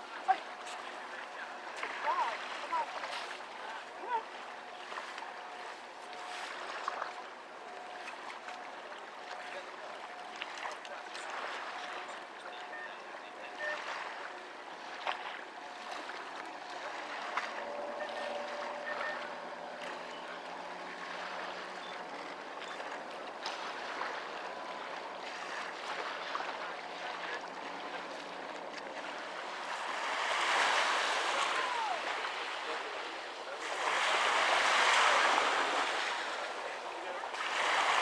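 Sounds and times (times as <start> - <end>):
water rushing: 0.0 - 38.0.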